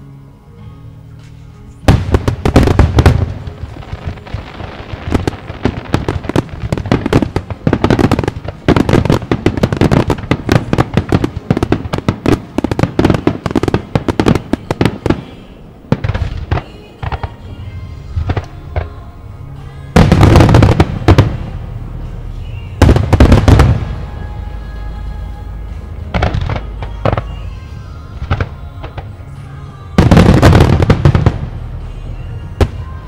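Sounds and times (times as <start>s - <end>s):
fireworks bursting: 1.8s - 33.0s.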